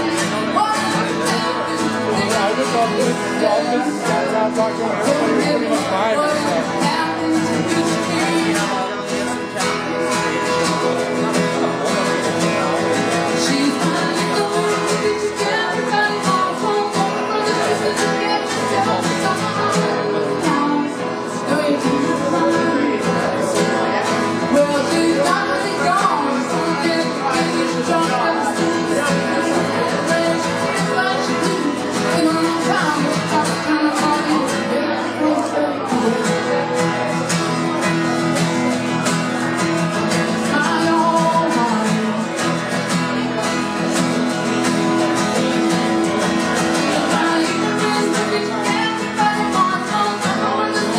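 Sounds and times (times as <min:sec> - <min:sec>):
woman singing: 0:00.0 - 0:10.5, 0:12.6 - 0:37.0, 0:40.1 - 0:42.7, 0:45.2 - 0:50.9
acoustic guitar strumming: 0:00.0 - 0:50.9.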